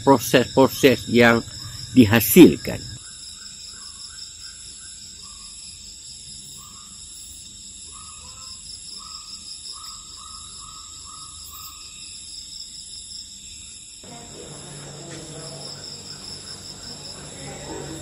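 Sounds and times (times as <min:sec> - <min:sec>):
insect chirring: 0:00.0 - 0:18.0.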